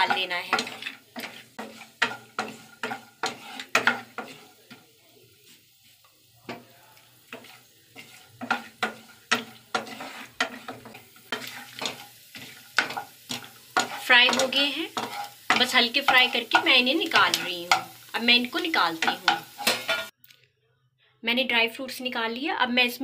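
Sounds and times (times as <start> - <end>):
spatula scraping a pan: 0.0 - 20.1
nuts sizzling: 0.0 - 20.2.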